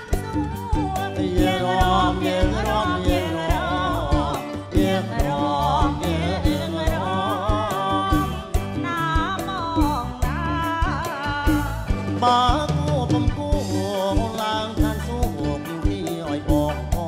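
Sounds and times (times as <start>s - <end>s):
backing band: 0.0s - 17.0s
steady drum beat: 0.0s - 17.0s
woman singing: 0.0s - 17.0s.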